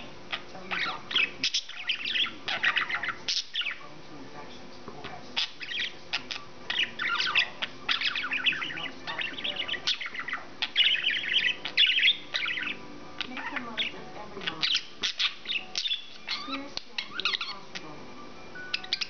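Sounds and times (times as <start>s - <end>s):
budgie warbling and chirping: 0.0s - 3.8s, 5.4s - 17.8s, 18.6s - 19.0s.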